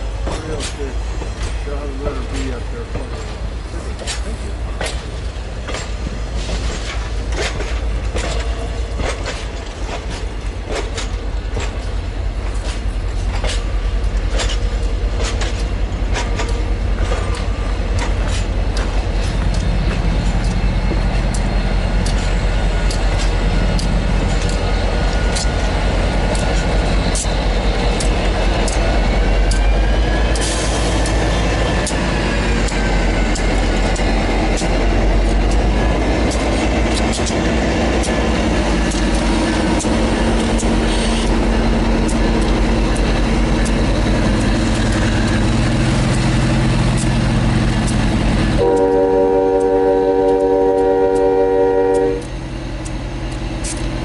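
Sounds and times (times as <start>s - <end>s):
train rumbling along track: 0.0s - 54.0s
wheels clicking over rail joints: 0.0s - 54.0s.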